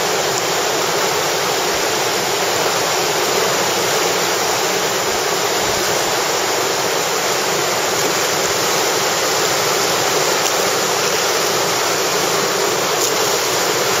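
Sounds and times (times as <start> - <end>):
whitewater rushing over rock: 0.0 - 14.0.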